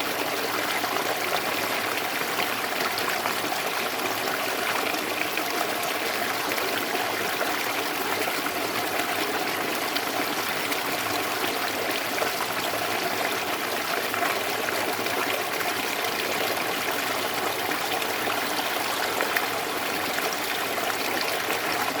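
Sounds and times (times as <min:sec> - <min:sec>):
water trickling and babbling: 0:00.0 - 0:22.0.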